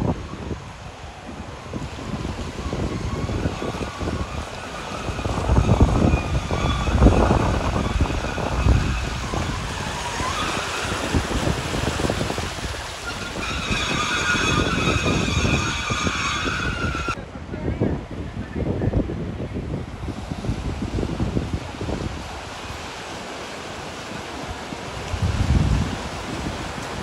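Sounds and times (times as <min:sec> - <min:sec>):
car driving through floodwater: 0:00.0 - 0:27.0
wind buffeting microphone: 0:00.0 - 0:27.0.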